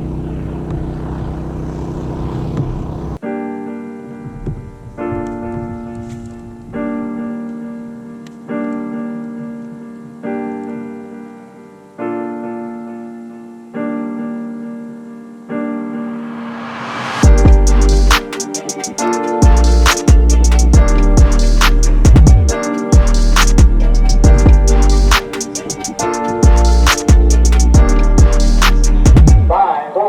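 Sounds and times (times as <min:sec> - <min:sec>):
piano chords: 0:02.8 - 0:29.9.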